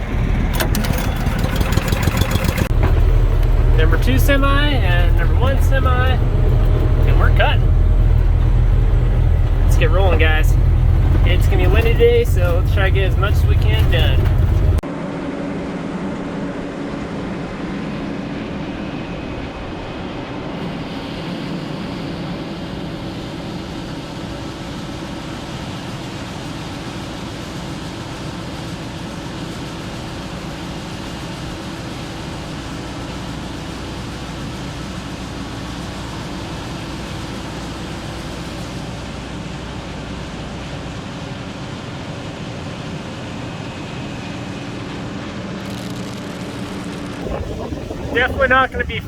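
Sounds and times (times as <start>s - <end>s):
large vehicle engine running: 0.0s - 19.4s, 20.4s - 49.0s.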